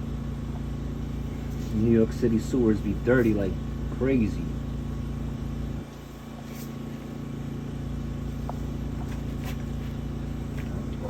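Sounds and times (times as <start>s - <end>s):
engine and pump droning: 0.0s - 11.0s.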